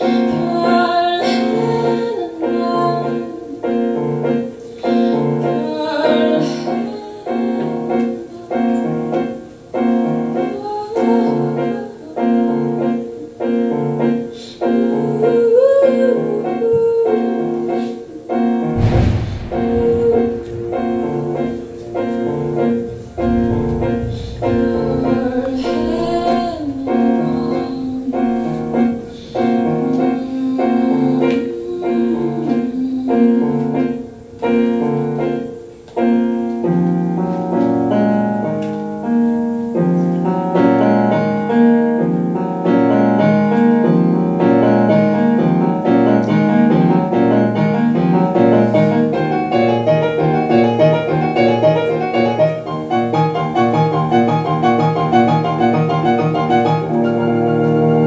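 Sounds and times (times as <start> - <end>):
digital piano playing: 0.0 - 58.0.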